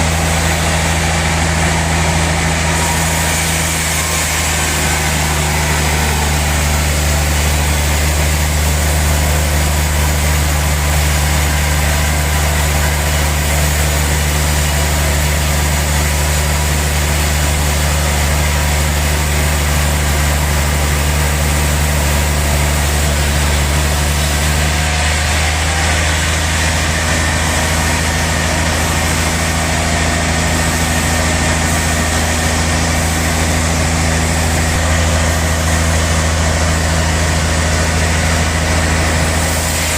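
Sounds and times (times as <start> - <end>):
sawmill saw humming: 0.0 - 39.9.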